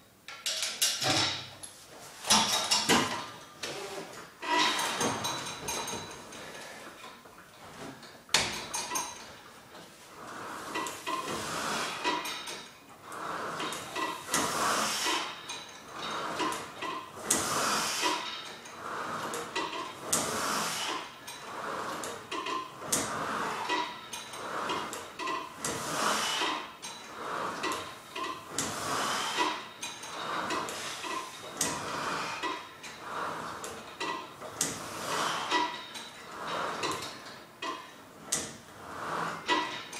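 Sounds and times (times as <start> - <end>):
weight stack and pulleys clattering: 0.3 - 39.9.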